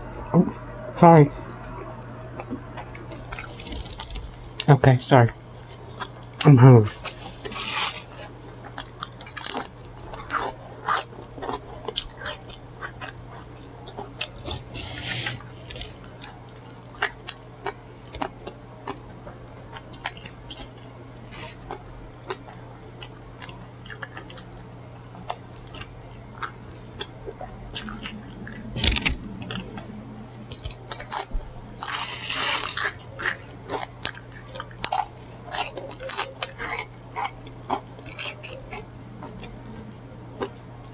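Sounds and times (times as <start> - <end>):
crisp bites and wet chewing: 2.4 - 19.1, 19.7 - 29.8, 30.4 - 39.5.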